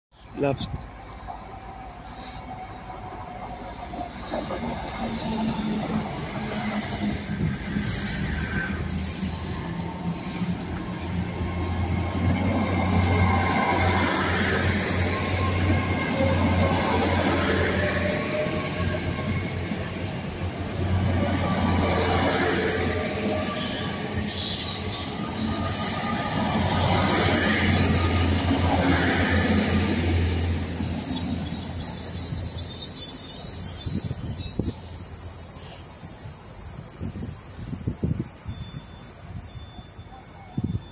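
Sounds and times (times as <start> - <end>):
train diesel engine hum: 0.2 - 40.9
train wheels on rails: 0.6 - 40.9.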